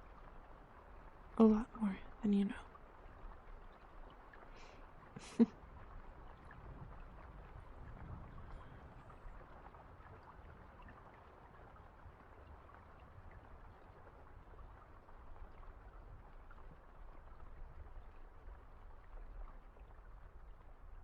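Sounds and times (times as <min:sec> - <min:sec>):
soft rain: 0:00.0 - 0:21.0.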